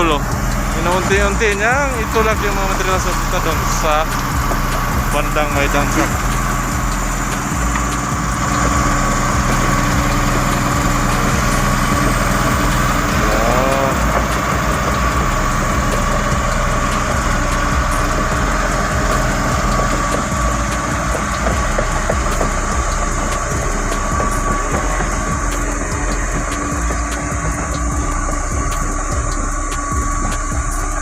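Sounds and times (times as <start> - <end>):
bulldozer diesel engine whining: 0.0 - 31.0.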